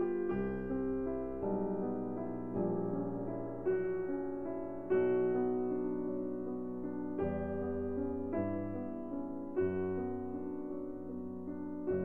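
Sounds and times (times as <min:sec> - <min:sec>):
slow piano notes: 0:00.0 - 0:12.0.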